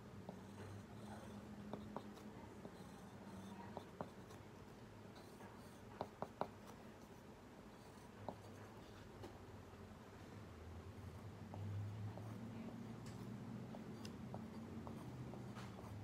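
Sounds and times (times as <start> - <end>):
pencil drawing on paper: 0.0 - 9.2, 11.0 - 16.0.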